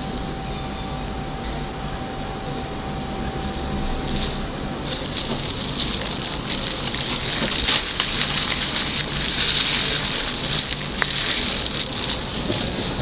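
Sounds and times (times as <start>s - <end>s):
constant hiss: 0.0s - 13.0s
low unsteady rumble: 0.0s - 13.0s.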